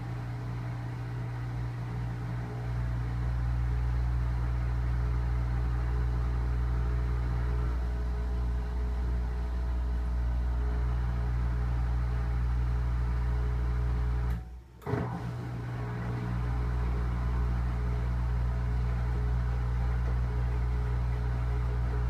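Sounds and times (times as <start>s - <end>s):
washing machine motor humming: 0.0s - 22.0s.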